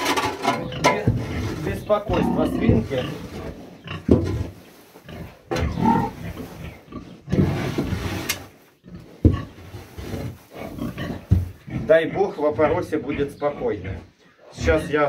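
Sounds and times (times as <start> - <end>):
pig grunting: 0.6 - 7.8, 8.8 - 15.0.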